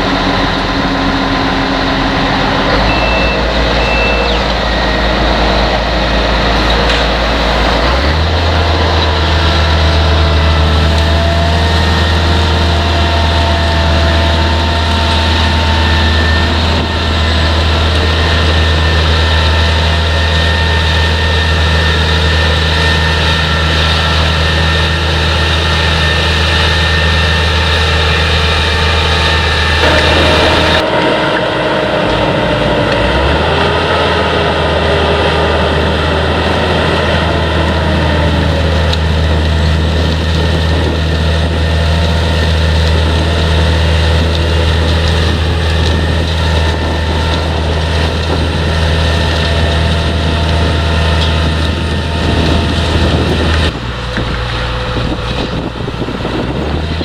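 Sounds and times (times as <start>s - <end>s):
deep engine drone: 0.0s - 57.0s
machinery whining tones: 0.0s - 57.0s.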